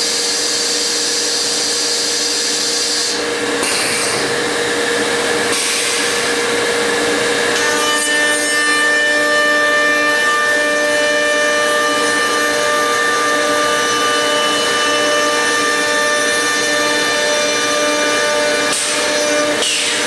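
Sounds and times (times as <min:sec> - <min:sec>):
router motors cutting wood: 0:01.1 - 0:20.0.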